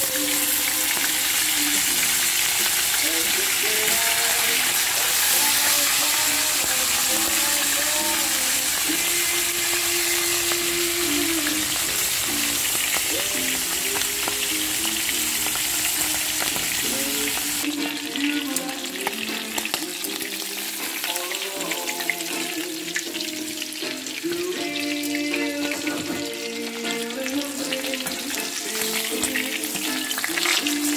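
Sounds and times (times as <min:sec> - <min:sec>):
background music: 0:00.0 - 0:30.9
fish sizzling in oil: 0:00.0 - 0:30.9.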